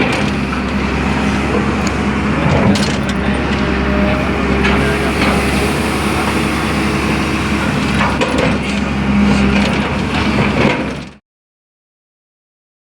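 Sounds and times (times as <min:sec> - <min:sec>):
excavator diesel engine running: 0:00.0 - 0:11.2.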